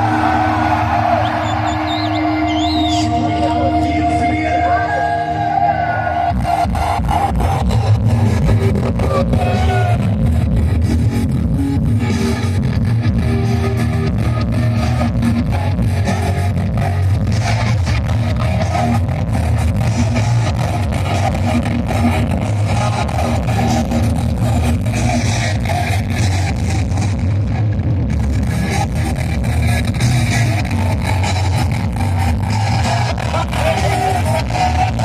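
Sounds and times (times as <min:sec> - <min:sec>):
live heavy metal band: 0:00.0 - 0:35.0.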